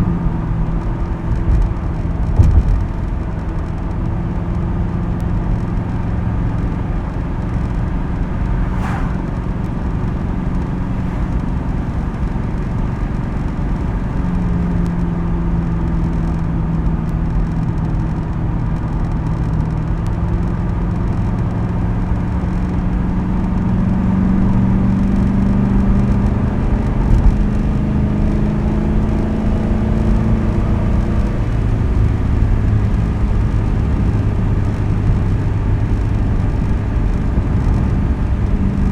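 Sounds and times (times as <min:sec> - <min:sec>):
car engine droning while driving: 0:00.0 - 0:38.9.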